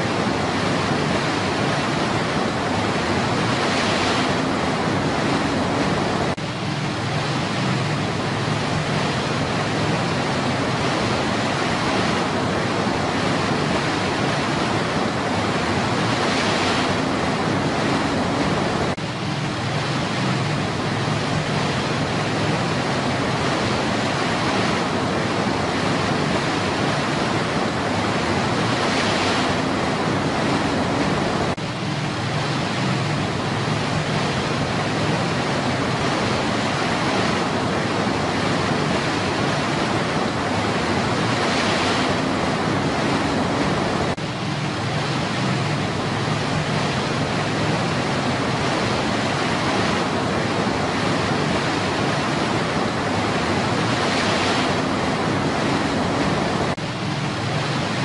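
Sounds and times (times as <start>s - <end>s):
white water rushing over rocks: 0.0s - 58.0s.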